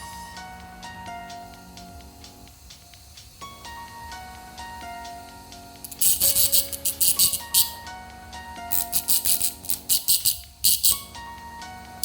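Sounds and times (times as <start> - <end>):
light ticking beat: 0.0 - 12.0.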